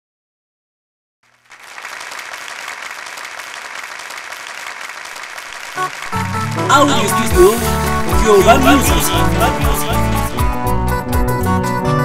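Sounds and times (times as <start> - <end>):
audience applauding: 1.3 - 11.0.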